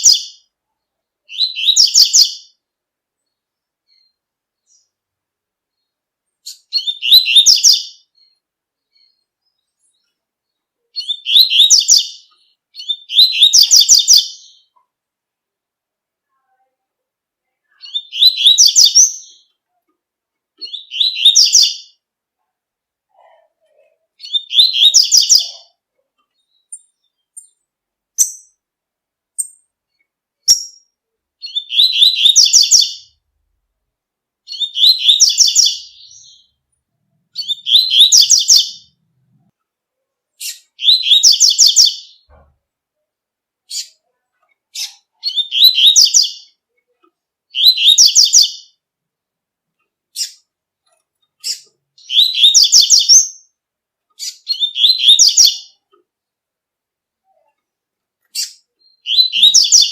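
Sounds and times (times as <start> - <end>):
songbird singing bright phrases: 0.0 - 22.4, 23.5 - 33.5, 34.3 - 39.6, 40.3 - 48.9, 49.8 - 56.5, 57.2 - 59.9.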